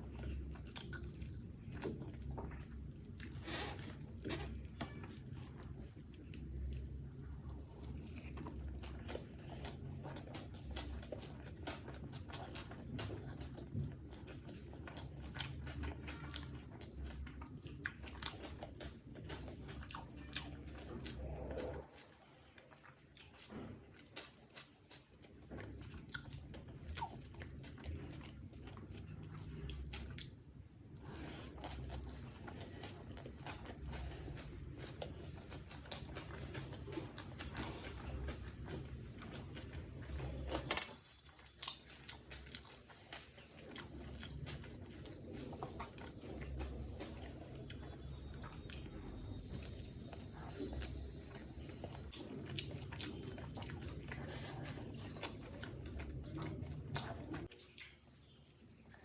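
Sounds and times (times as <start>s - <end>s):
close chewing and biting: 0.0s - 59.0s.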